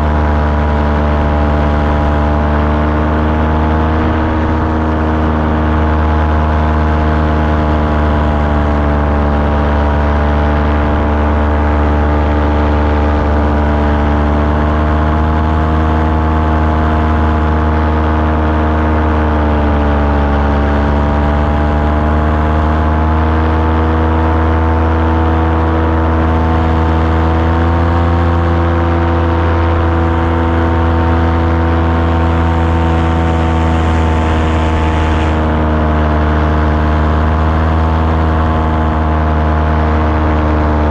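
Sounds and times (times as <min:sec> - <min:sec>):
small aircraft engine: 0:00.0 - 0:40.9.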